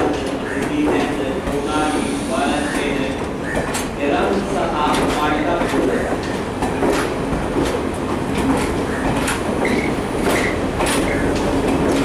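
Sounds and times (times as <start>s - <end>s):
train wheels clicking over rail joints: 0.0s - 12.0s.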